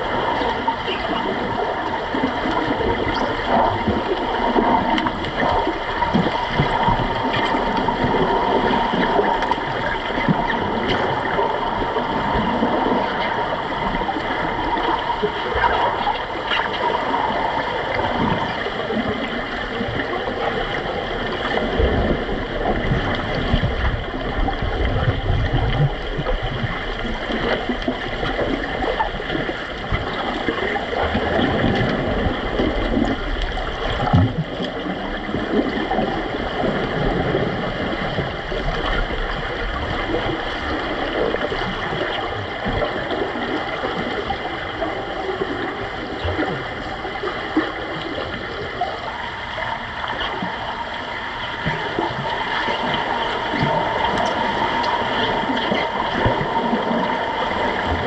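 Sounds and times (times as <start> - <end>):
muffled underwater water rushing: 0.0 - 58.0.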